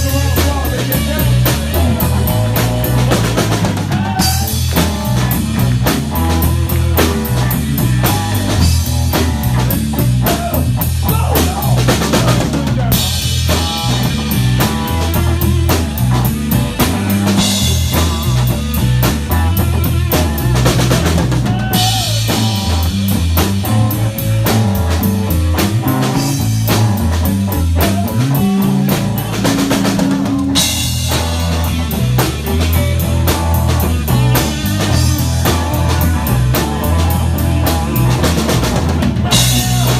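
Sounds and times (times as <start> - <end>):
bass notes: 0.0 - 39.9
drum kit beat: 0.0 - 39.9
guitar: 0.0 - 39.9.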